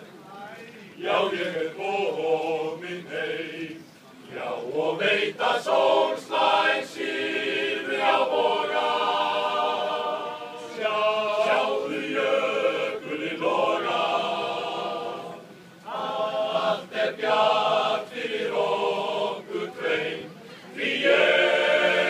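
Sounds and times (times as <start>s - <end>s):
men's choir singing a cappella: 1.0s - 22.0s.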